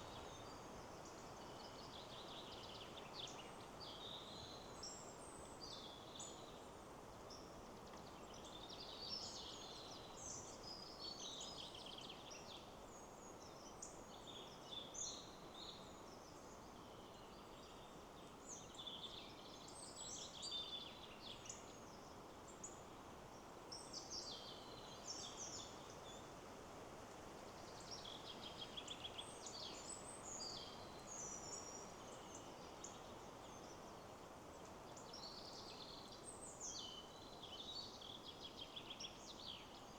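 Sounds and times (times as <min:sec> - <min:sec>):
wind in trees: 0:00.0 - 0:39.9.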